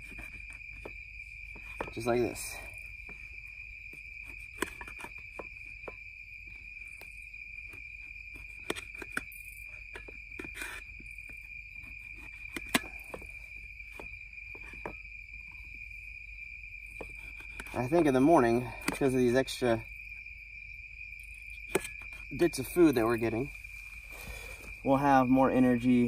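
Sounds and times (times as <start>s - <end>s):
night insects chirring: 0.0s - 26.0s.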